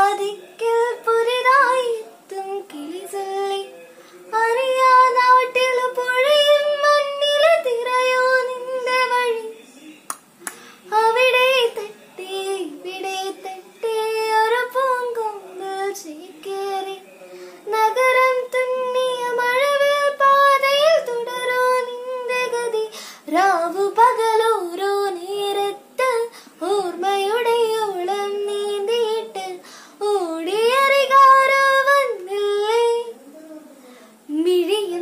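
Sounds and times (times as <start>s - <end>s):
girl singing unaccompanied: 0.0s - 3.7s, 4.3s - 9.5s, 10.9s - 33.6s, 34.2s - 35.0s.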